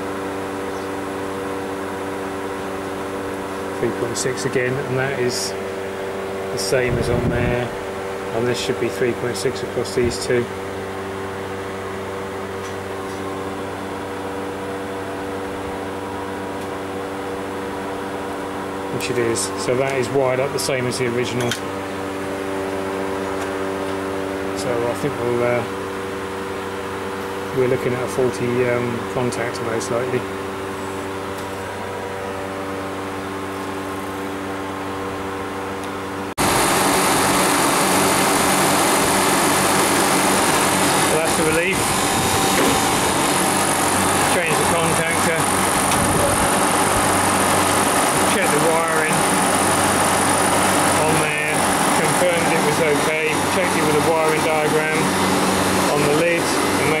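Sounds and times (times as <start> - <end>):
compressor and condenser fan running: 0.0 - 57.0
electrical machinery hum: 0.0 - 57.0.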